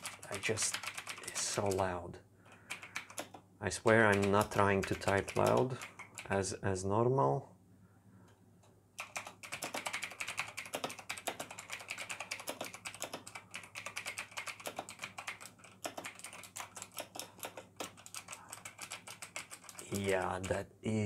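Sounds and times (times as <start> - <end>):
fast typing on mechanical keyboard: 0.0 - 6.4, 9.0 - 20.6.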